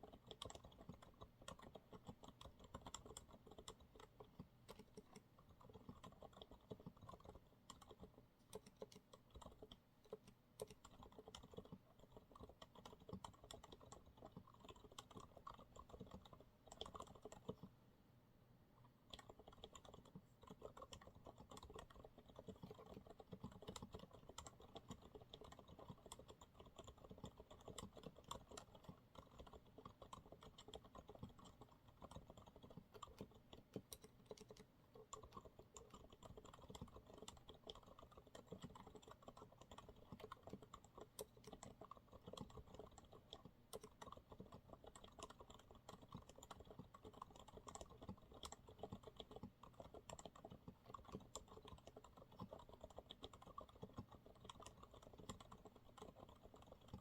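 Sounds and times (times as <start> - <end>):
soft keyboard typing: 0.0 - 17.8, 18.8 - 57.0.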